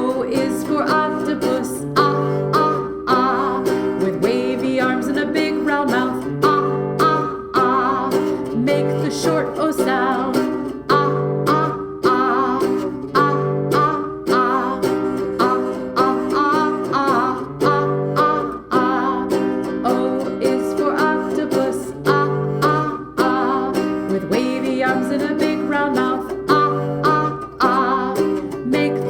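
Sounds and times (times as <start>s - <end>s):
person singing children's song: 0.0s - 29.0s
strummed guitar chords: 0.0s - 29.0s.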